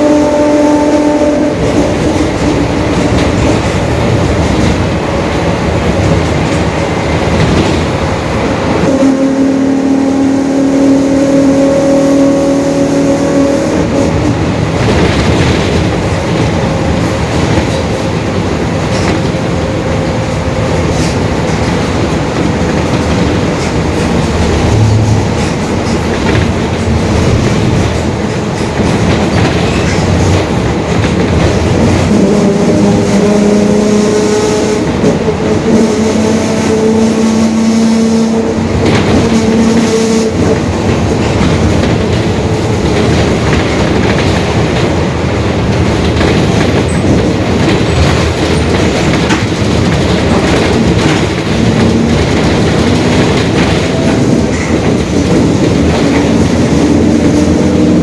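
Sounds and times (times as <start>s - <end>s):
road noise: 0.0s - 58.0s
bus diesel engine running: 9.8s - 58.0s.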